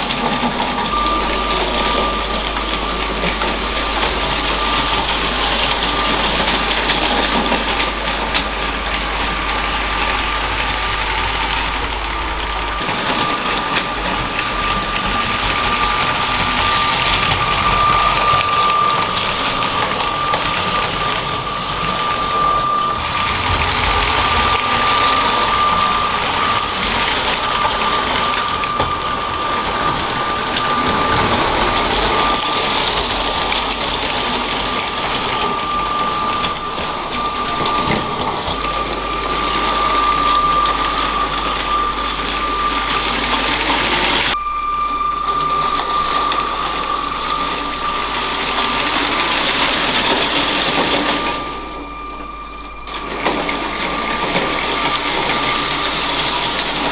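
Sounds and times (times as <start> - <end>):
toy train motor whining: 0.0 - 56.9
wheels rattling on plastic track: 0.0 - 56.9.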